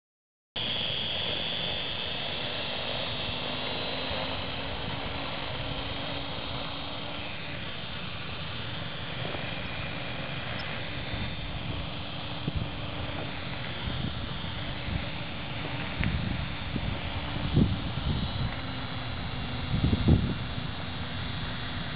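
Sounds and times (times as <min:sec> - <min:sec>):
helicopter rotor whir: 0:00.6 - 0:21.9
motor and gear whine: 0:00.6 - 0:21.9.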